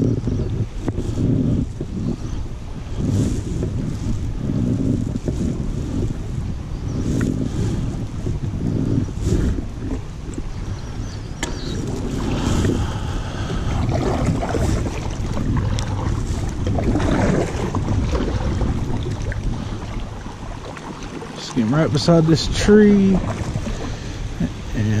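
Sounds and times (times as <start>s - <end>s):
water moving around hull: 0.0s - 25.0s
wind buffeting microphone: 0.0s - 25.0s.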